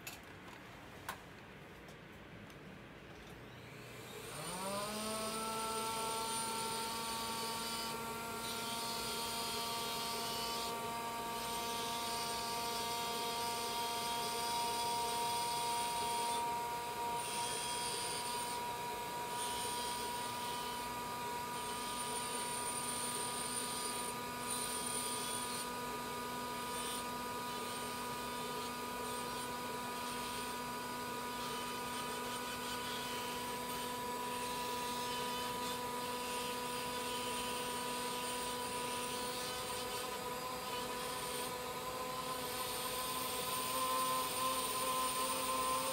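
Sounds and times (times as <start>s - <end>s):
dental handpiece whine: 3.5s - 45.9s.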